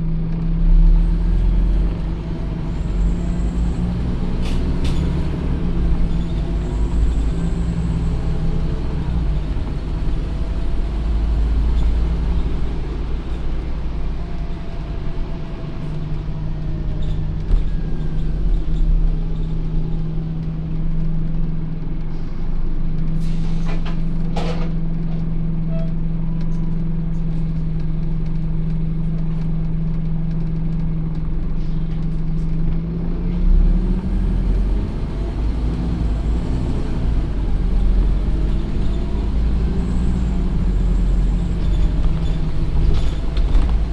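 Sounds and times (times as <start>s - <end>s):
bus diesel engine droning: 0.0s - 43.9s.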